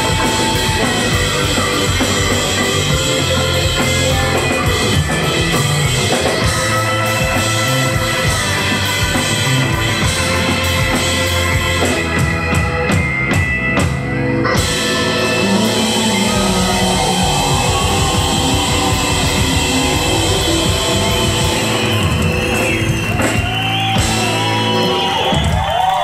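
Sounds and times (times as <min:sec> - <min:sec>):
crowd cheering: 0:00.0 - 0:26.0
live band playing popular music: 0:00.0 - 0:26.0.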